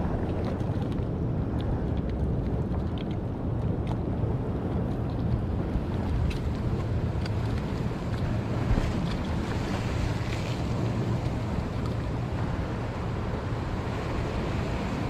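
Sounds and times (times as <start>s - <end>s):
sea waves washing against rock: 0.0s - 15.0s
wind on microphone: 0.0s - 15.0s.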